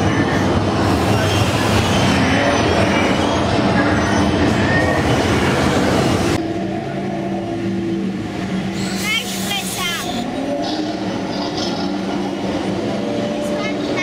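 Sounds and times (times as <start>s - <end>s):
ride vehicle rumbling on track: 0.0s - 14.0s.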